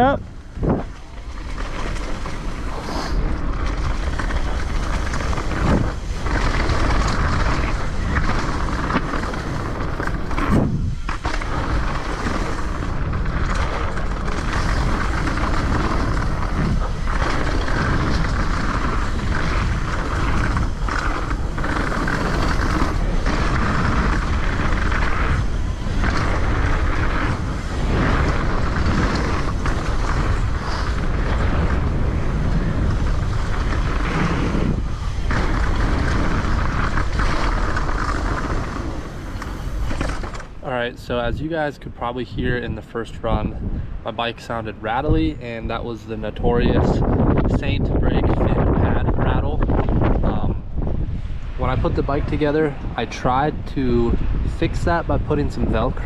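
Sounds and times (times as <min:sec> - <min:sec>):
bike tyre noise on road: 0:00.0 - 0:56.0
wind buffeting microphone: 0:00.0 - 0:56.0.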